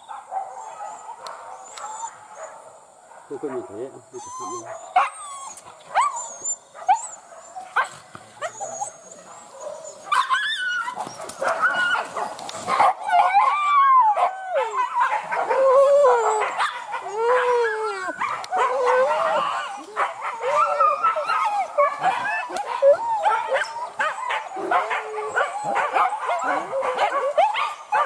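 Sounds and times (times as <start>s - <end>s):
dogs yelping and whining: 0.0s - 2.6s, 4.1s - 28.0s.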